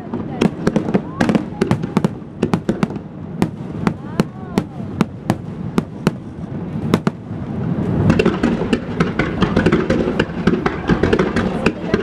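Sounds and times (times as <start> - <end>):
firework crackles: 0.0 - 12.0
firework shells bursting: 0.4 - 12.0.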